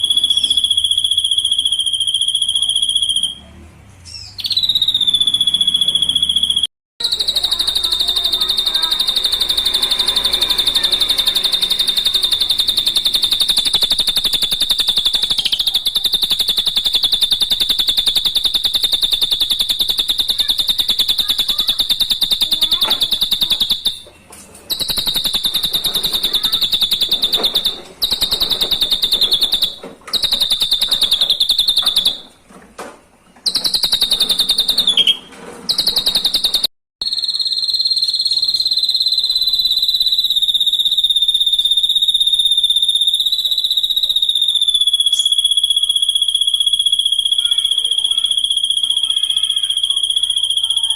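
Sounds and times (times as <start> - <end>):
bird buzzy high trill: 0.0 - 3.4, 4.3 - 24.1, 24.7 - 32.4, 33.5 - 50.9.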